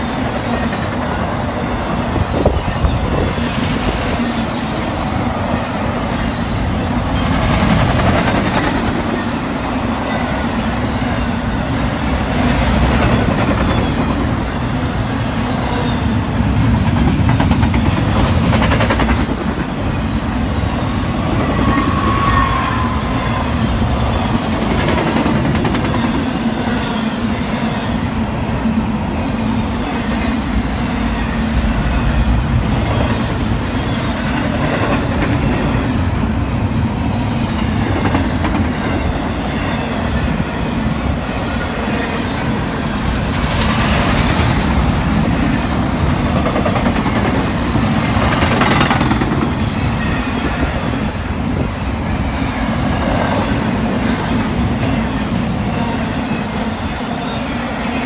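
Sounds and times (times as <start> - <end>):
wheels rumbling on rails: 0.0 - 57.0
freight train passing: 0.0 - 58.0.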